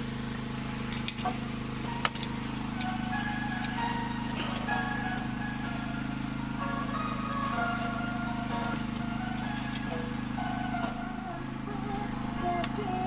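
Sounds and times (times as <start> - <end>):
small engine running: 0.0 - 13.0
faint higher tones: 1.3 - 13.0.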